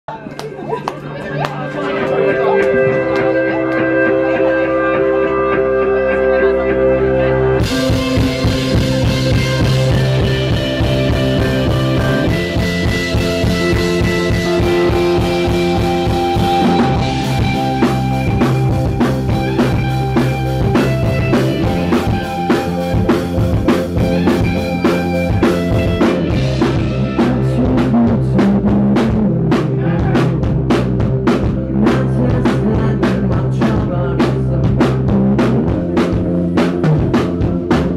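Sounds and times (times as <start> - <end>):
sustained electric guitar: 0.1 - 37.9
drum kit beat: 0.4 - 5.5, 7.6 - 37.9
synthesizer chords: 0.6 - 37.9.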